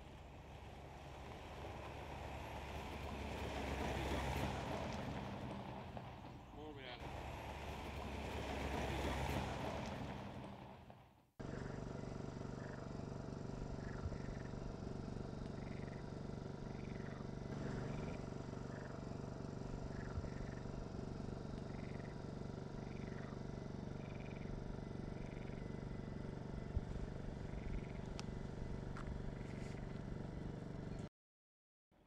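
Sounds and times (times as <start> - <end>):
low mechanical drone: 0.0 - 31.1.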